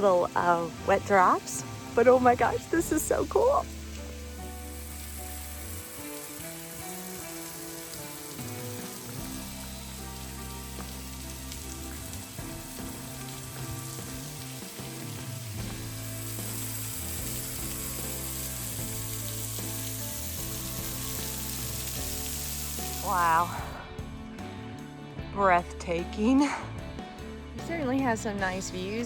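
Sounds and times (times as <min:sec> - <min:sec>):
waterfall hiss and drips: 0:00.0 - 0:24.0
music of low sustained notes: 0:00.0 - 0:29.0.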